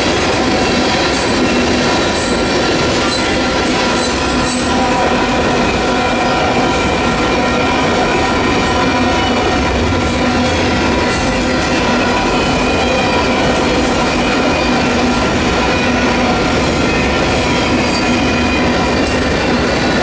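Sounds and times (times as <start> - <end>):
freight train cars rolling past: 0.0 - 20.0.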